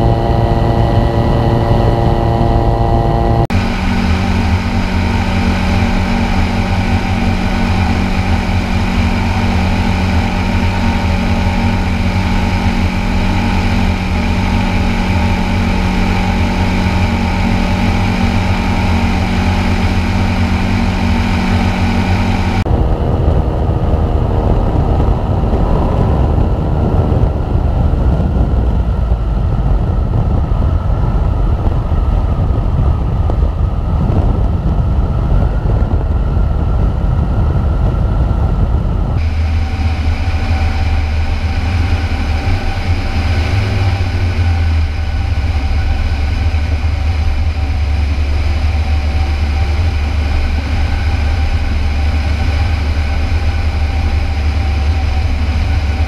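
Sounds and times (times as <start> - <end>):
light aircraft engine and propeller: 0.0 - 56.0
wind rush over microphone: 0.0 - 56.0.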